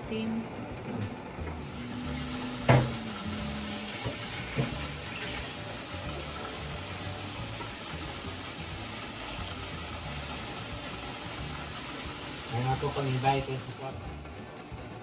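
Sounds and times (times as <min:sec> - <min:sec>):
water boiling hiss: 0:01.6 - 0:14.1.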